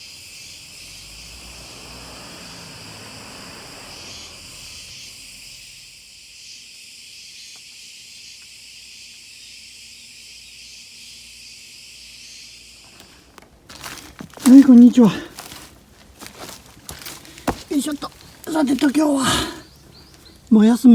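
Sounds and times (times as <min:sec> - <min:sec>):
insects chirring: 0:00.0 - 0:20.9.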